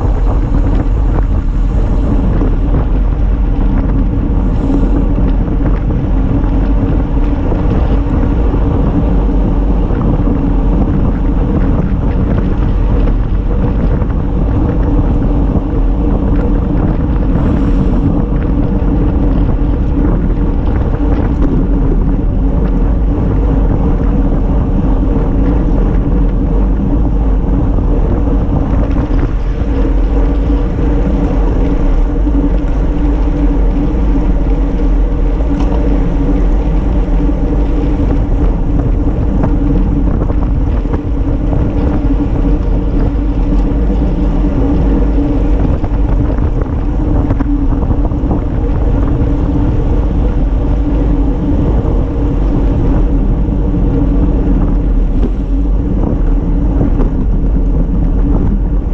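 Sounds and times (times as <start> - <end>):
bicycle tyres rolling on asphalt: 0.0 - 58.9
wind rumble on microphone: 0.0 - 58.9.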